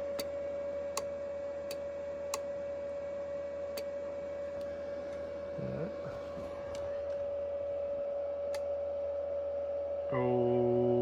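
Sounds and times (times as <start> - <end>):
low hum: 0.0 - 11.0
steady electronic whine: 0.0 - 11.0.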